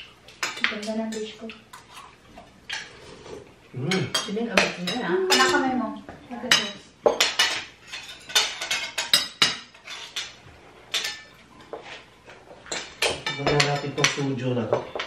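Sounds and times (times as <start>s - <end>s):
cutlery clinking against plates: 0.0s - 3.0s, 3.9s - 5.8s, 6.5s - 15.0s.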